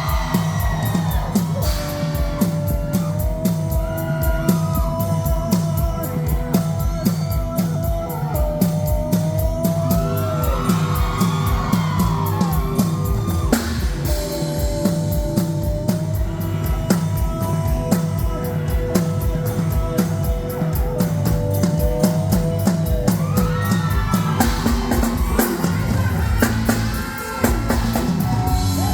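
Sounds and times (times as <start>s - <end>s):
drum kit beat: 0.0s - 28.9s.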